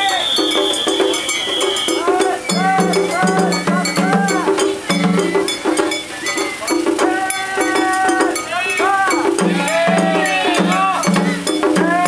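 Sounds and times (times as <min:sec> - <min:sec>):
metal hand gong clanging: 0:00.0 - 0:11.9
high sliding melody: 0:00.0 - 0:12.0
taiko drums beating: 0:00.0 - 0:12.0.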